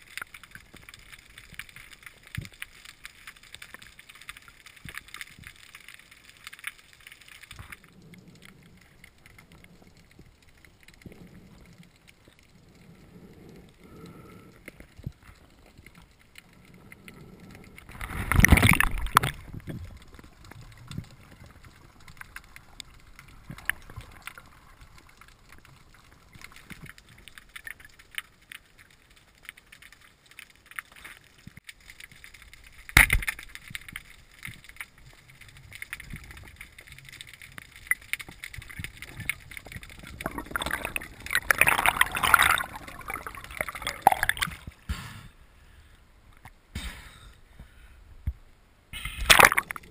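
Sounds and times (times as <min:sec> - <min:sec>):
bubbling and splashing: 0:00.0 - 0:44.9, 0:49.0 - 0:49.9
rush of water and bubbles: 0:00.0 - 0:44.9, 0:49.0 - 0:49.9
faint underwater noise: 0:00.0 - 0:49.9.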